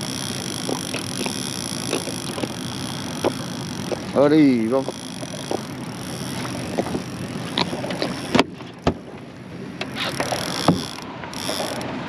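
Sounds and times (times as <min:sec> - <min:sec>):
sharp clicks and knocks: 0:00.0 - 0:09.1, 0:09.8 - 0:12.0
water noise: 0:00.0 - 0:12.0
wind: 0:00.0 - 0:12.0.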